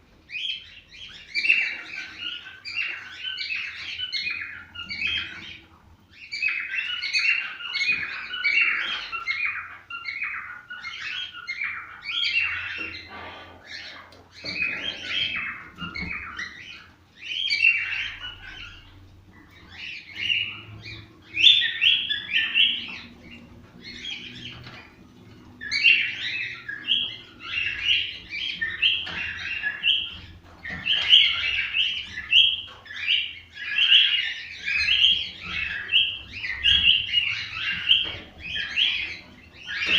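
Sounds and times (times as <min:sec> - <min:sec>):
cockatiels chirping: 0:00.2 - 0:39.9.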